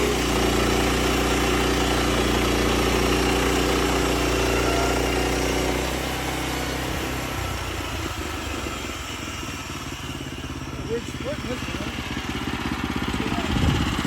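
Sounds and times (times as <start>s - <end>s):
sawmill engine humming: 0.0s - 14.0s.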